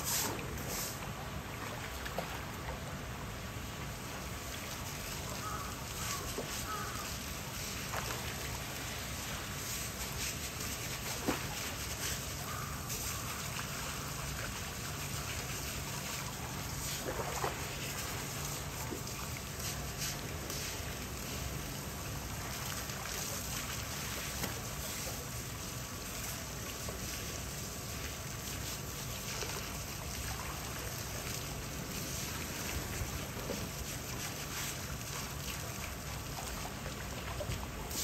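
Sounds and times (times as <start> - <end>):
hose water splashing over rock: 0.0 - 2.8, 3.7 - 38.0.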